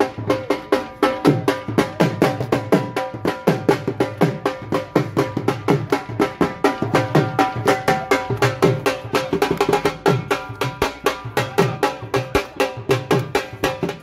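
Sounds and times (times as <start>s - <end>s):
fast dhol drumming: 0.0s - 14.0s.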